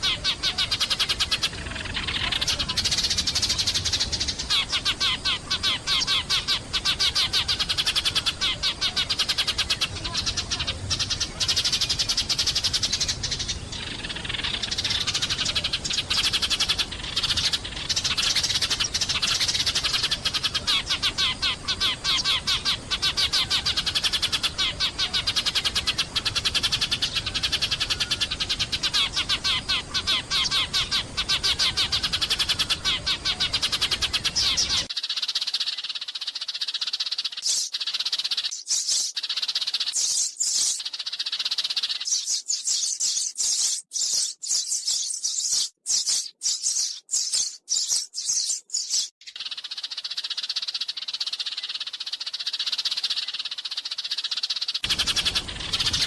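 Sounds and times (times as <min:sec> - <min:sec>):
sparrows chirping: 0:00.0 - 0:56.0.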